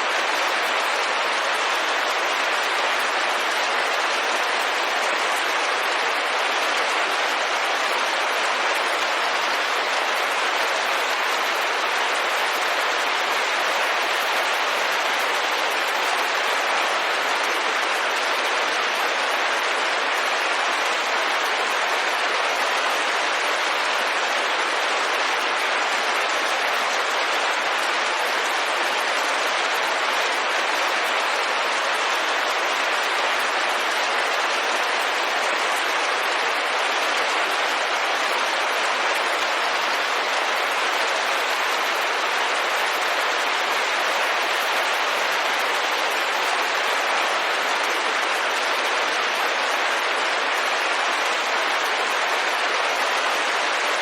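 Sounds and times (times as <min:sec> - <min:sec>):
rain pattering on a window: 0:00.0 - 0:54.0.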